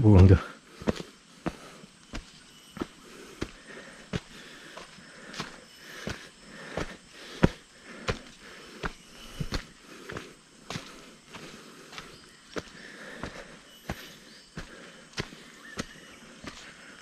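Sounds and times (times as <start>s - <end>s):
footsteps on dry leaves and dirt: 0.7s - 17.0s.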